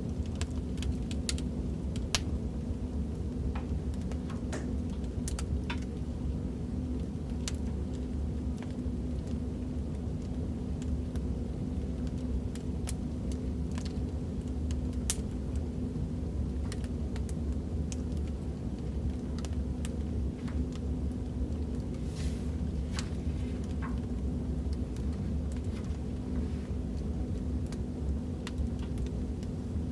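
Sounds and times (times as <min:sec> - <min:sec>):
fire crackles and pops: 0:00.0 - 0:29.9
wood fire rumbling: 0:00.0 - 0:29.9.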